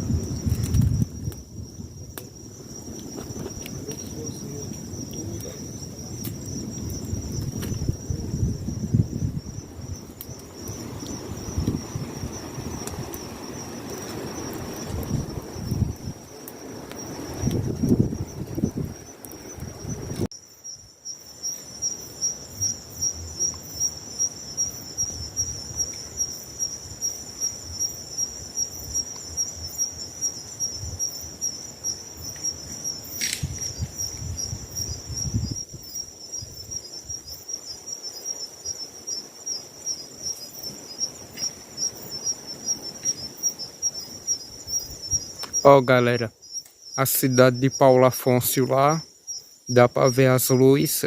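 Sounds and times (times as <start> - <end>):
crickets chirping: 0.0 - 51.0.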